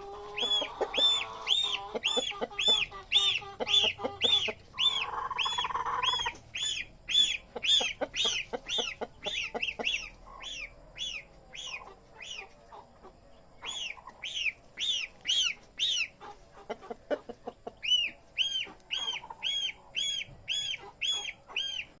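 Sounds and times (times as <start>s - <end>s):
goslings peeping: 0.0s - 22.0s.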